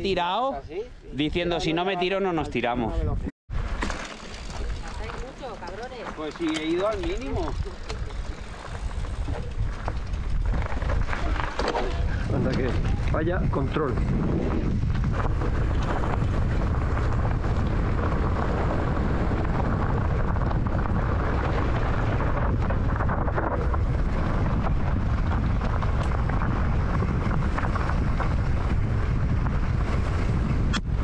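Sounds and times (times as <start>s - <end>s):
tyres rumbling on dirt trail: 3.5s - 31.0s
wind buffeting microphone: 4.5s - 31.0s.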